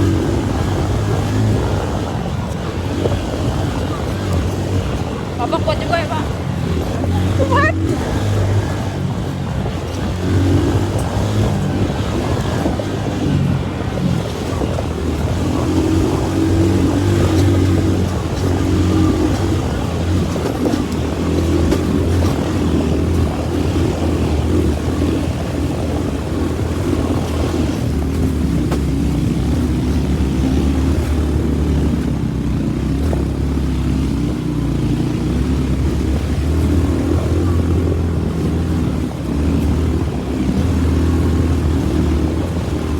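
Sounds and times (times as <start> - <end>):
motorcycle engine under load: 0.0 - 42.9.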